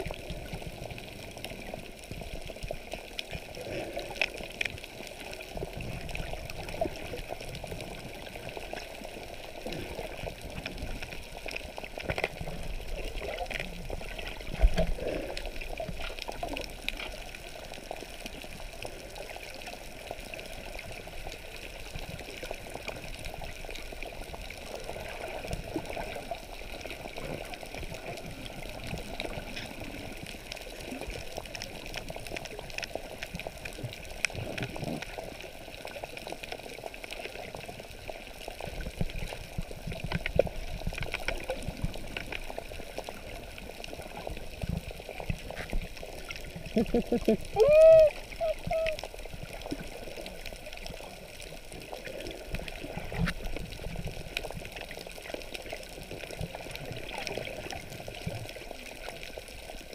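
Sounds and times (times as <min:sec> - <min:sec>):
crackles and bubbling: 0:00.0 - 0:59.9
underwater water noise: 0:00.0 - 0:59.9.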